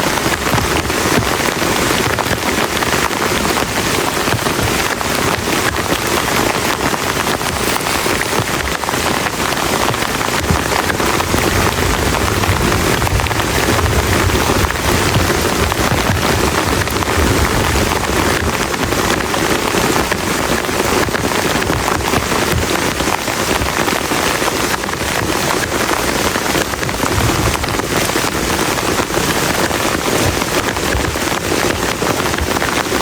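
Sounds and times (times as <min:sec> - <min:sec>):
heavy rain on a plastic tarp: 0:00.0 - 0:33.0.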